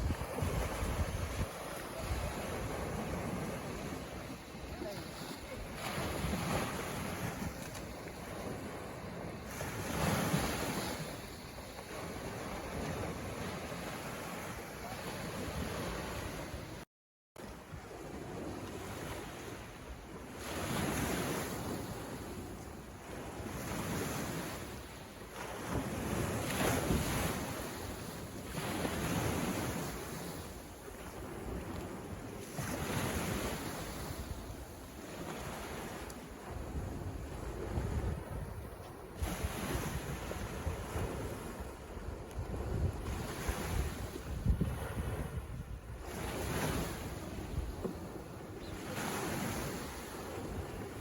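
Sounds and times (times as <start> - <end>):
ocean waves washing ashore: 0.0 - 16.8, 17.4 - 51.0.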